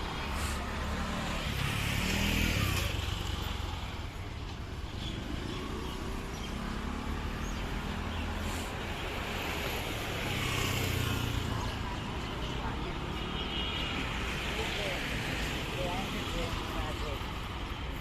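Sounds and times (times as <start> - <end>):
vehicle engines and tyre rumble: 0.0 - 18.0
vehicles passing close by: 0.0 - 18.0.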